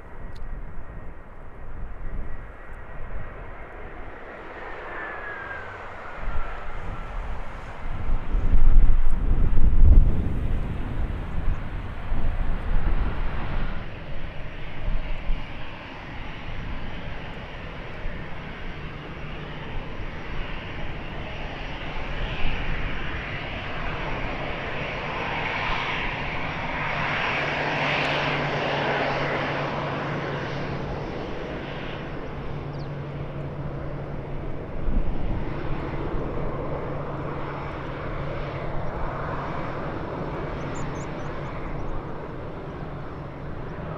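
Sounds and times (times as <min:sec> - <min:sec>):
airliner engines passing: 0:00.0 - 0:43.9
wind buffeting microphone: 0:00.1 - 0:43.9.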